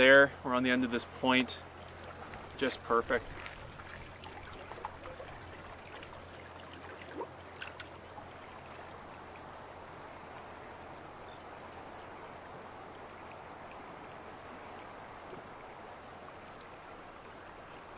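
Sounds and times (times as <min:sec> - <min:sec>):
water rushing over rocks: 0:00.0 - 0:17.9.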